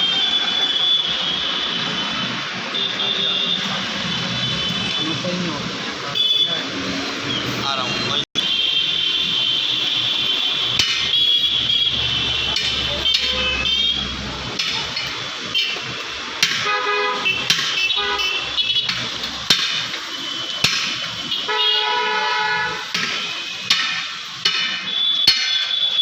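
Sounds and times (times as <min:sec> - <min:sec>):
vehicle horns honking: 0:00.0 - 0:05.4, 0:06.1 - 0:14.8, 0:15.5 - 0:26.0
traffic: 0:00.0 - 0:26.0.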